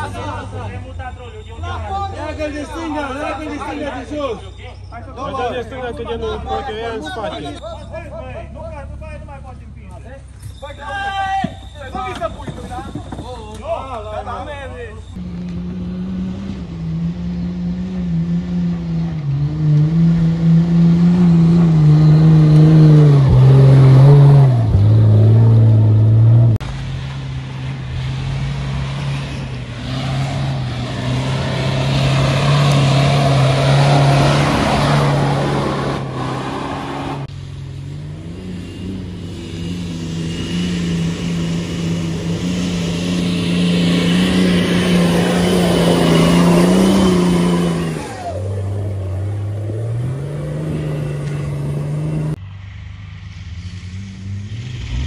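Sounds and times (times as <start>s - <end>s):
off-road vehicle engine revving: 0.0s - 10.6s, 14.0s - 55.0s.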